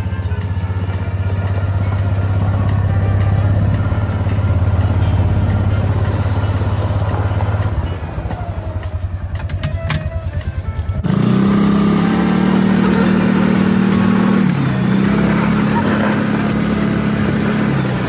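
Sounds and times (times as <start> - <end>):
utility vehicle engine running: 0.0 - 18.0.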